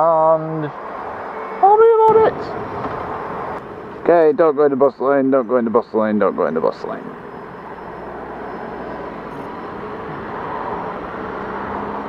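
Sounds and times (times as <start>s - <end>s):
wind and road rush: 0.0s - 12.0s.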